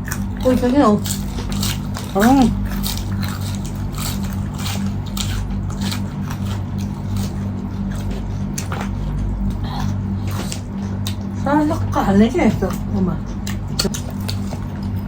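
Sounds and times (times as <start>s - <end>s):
chewing and mouth clicks: 0.0s - 15.0s
steady low hum: 0.0s - 15.0s.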